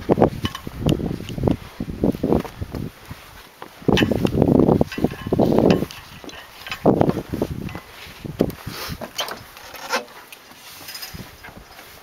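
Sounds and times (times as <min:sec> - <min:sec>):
footsteps on wooden walkway: 0:00.0 - 0:12.0.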